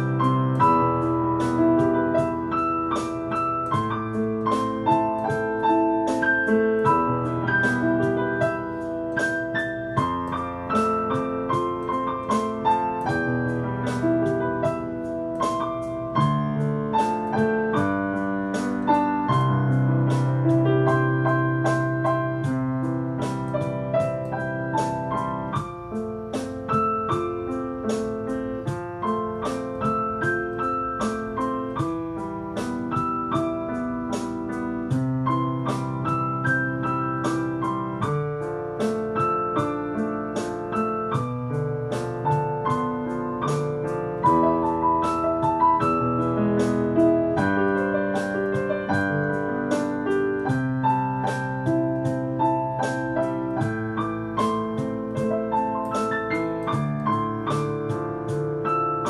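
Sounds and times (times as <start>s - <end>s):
digital piano playing pop song: 0.0s - 59.0s.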